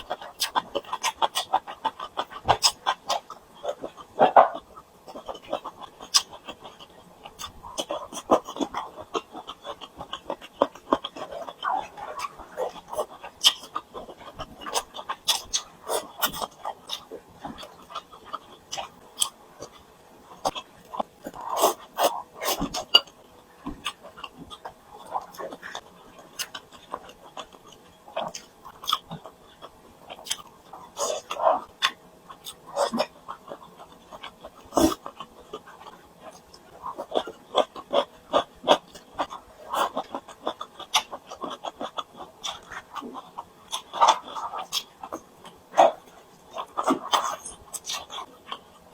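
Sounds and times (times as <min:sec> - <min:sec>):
close chewing with mouth clicks: 0:00.0 - 0:48.9.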